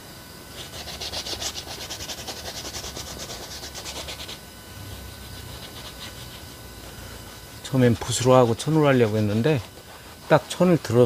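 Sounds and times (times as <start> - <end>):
cloth rubbing on canvas: 0.6 - 11.0.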